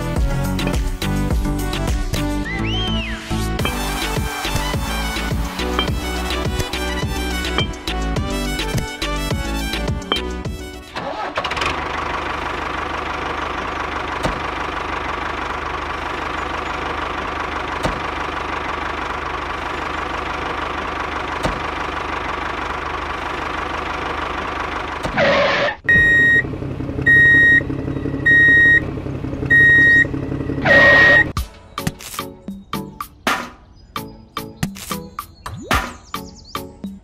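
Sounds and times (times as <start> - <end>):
tractor engine running: 0.0 - 31.4.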